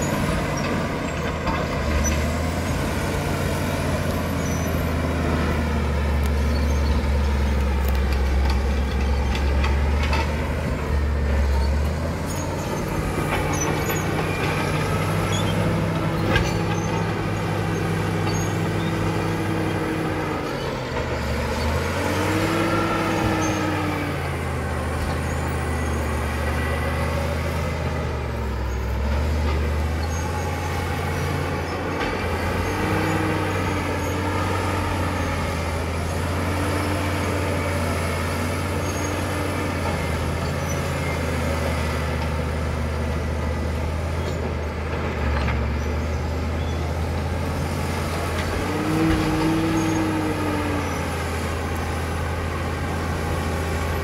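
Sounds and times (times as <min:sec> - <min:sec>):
bulldozer diesel engine working: 0:00.0 - 0:54.0.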